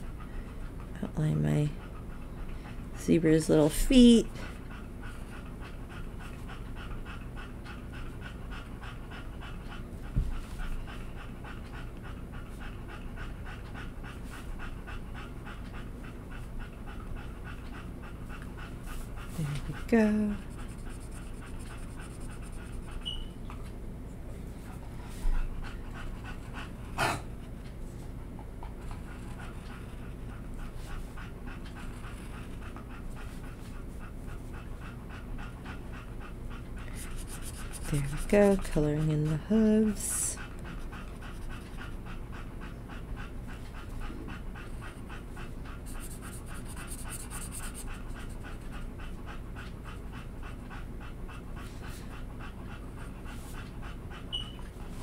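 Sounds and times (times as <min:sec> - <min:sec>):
dog panting: 0:00.0 - 0:55.0.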